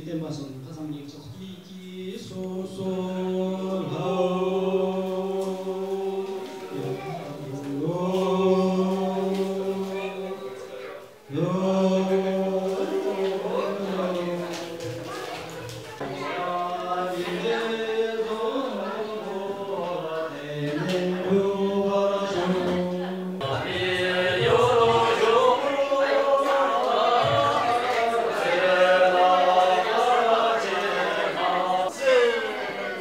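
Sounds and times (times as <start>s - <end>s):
voices singing a chant-like song: 1.0s - 33.0s.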